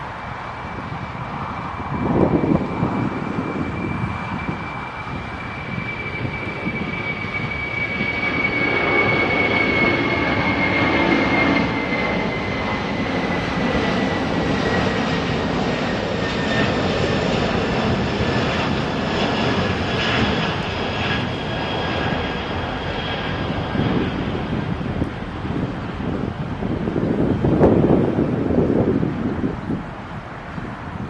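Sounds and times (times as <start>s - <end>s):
jet engines at take-off power: 0.0s - 31.0s.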